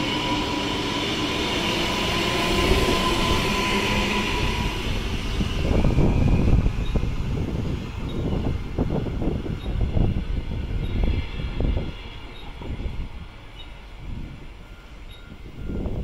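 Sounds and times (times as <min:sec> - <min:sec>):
electric train rumbling on rails: 0:00.0 - 0:16.0.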